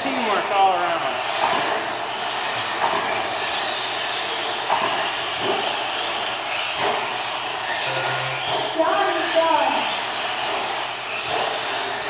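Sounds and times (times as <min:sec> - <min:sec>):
motor whines: 0:00.0 - 0:12.0
rc truck motors whirring: 0:00.0 - 0:12.0.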